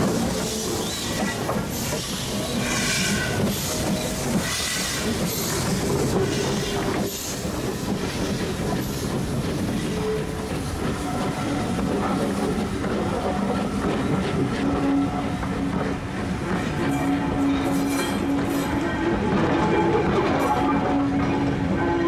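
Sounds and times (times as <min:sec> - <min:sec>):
train wheels clattering over rail joints: 0:00.0 - 0:21.6.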